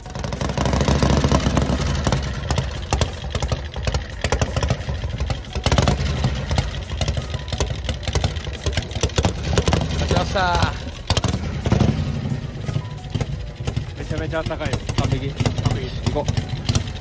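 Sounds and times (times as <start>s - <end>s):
motorcycle engine idling: 0.0s - 17.0s
sharp exhaust pops: 0.1s - 17.0s.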